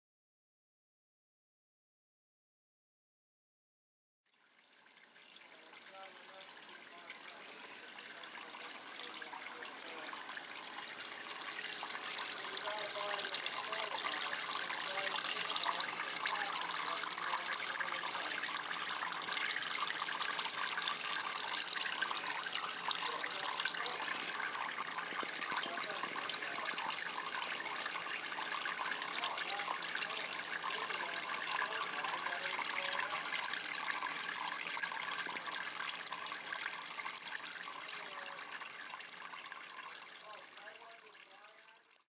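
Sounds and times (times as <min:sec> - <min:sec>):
gurgling drips: 0:04.3 - 0:42.0
water trickling down waterfall: 0:04.3 - 0:42.0.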